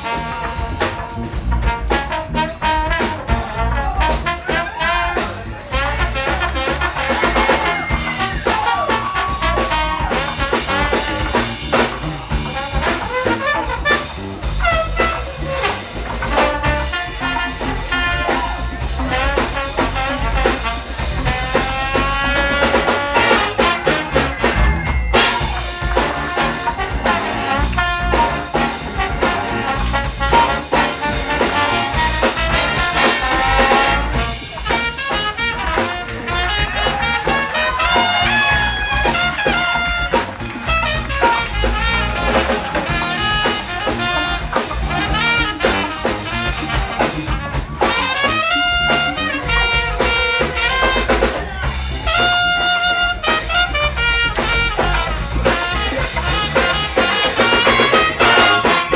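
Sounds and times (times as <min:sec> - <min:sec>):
big band playing: 0:00.0 - 0:58.9
trumpet solo: 0:00.0 - 0:58.9
trombone solo: 0:01.6 - 0:58.9.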